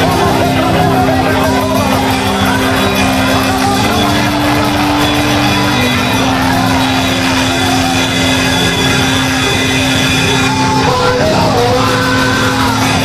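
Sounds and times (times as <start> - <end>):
gospel band instrumental music: 0.0 - 13.0.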